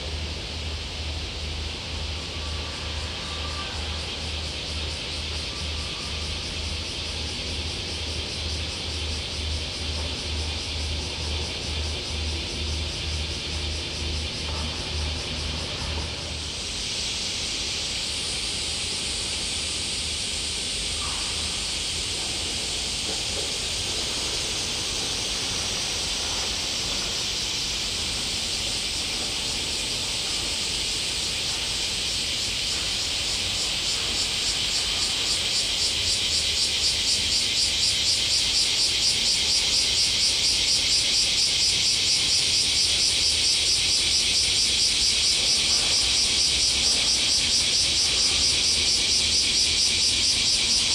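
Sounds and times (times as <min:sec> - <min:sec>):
cicadas buzzing: 0:00.0 - 0:50.9.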